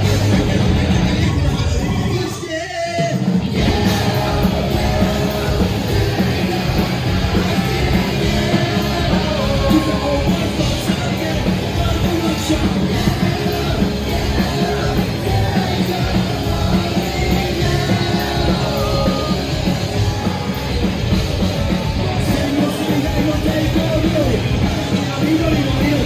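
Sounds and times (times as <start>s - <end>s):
live rock band playing: 0.0s - 26.0s
vocalist singing and yelling: 0.0s - 26.0s.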